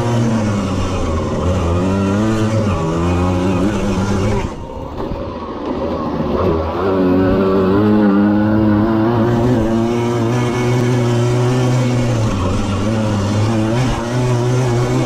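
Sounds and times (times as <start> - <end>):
moped engine revving: 0.0 - 15.0.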